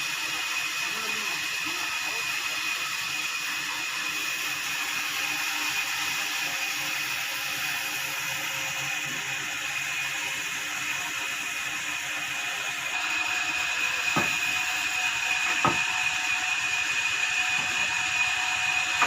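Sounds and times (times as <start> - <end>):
sawmill machinery whining: 0.0 - 19.0.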